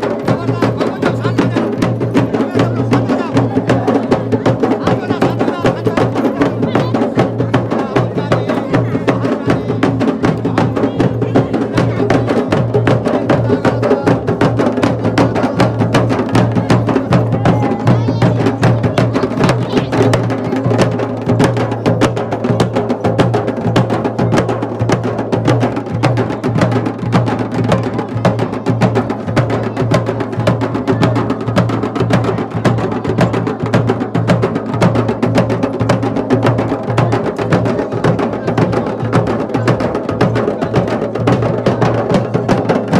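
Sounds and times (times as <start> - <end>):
fast continuous drumming: 0.0 - 42.9.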